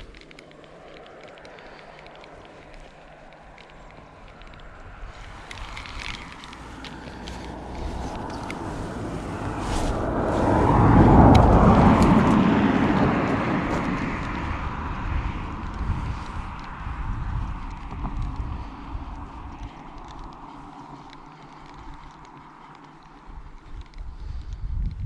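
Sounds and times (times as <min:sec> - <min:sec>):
small clicks: 0:00.0 - 0:12.4, 0:15.6 - 0:25.0
passing vehicle rumbling: 0:00.0 - 0:24.0.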